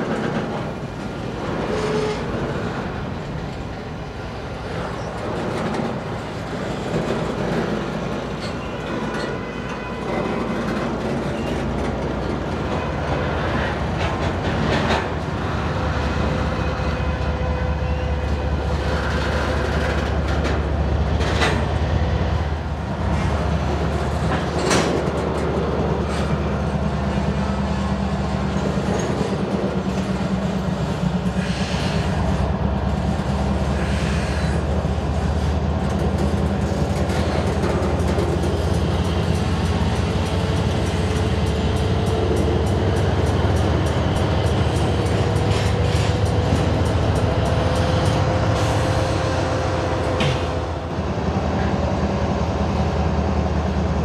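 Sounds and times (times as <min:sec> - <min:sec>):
diesel locomotive drone: 0:00.0 - 0:54.0
train wheels clacking over rails: 0:00.0 - 0:54.0.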